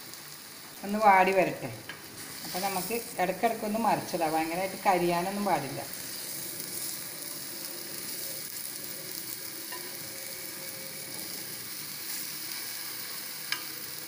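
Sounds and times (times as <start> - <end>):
plantains sizzling in a pan: 0.0 - 14.0.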